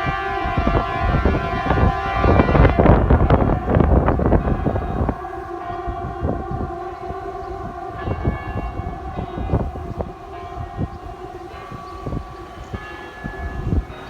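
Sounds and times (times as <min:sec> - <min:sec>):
air-raid sirens steady tone: 0:00.0 - 0:14.0.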